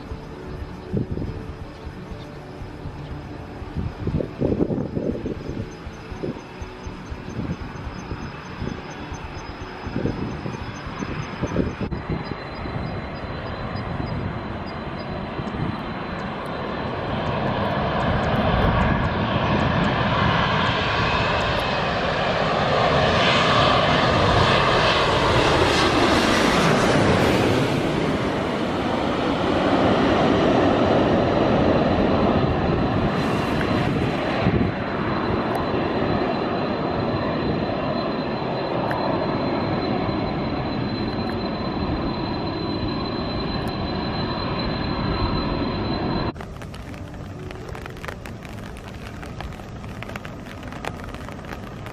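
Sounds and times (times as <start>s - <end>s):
jet airliner engines passing overhead: 0.0s - 51.9s.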